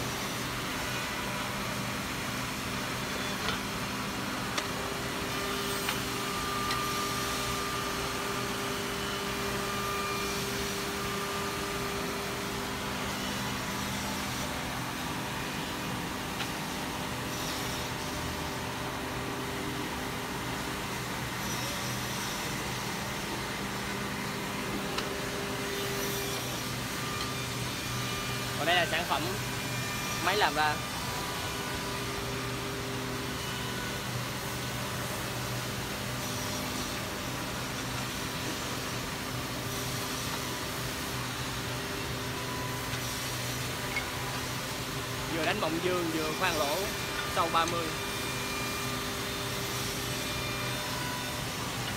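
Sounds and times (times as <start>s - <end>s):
machine motors humming and whirring: 0.0s - 51.9s.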